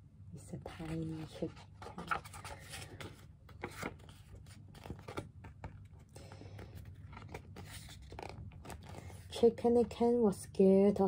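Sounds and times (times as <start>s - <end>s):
book pages rustling: 0.6s - 9.5s.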